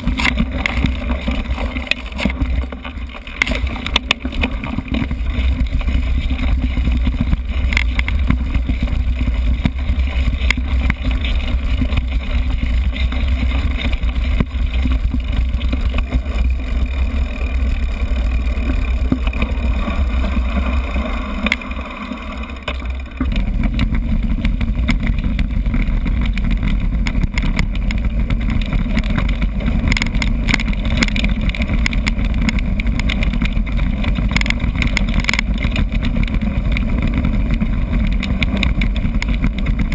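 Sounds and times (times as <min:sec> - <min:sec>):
bike knocks and rattles: 0:00.0 - 0:39.9.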